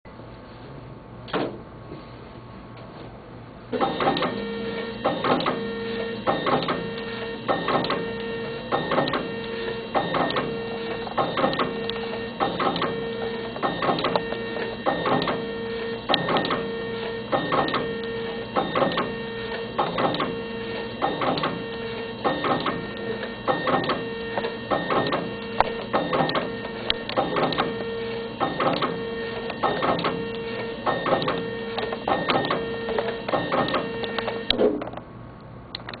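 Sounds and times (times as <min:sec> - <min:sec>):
printer pulsing hum: 0:03.4 - 0:35.0
printer sharp clacks: 0:03.8 - 0:35.0.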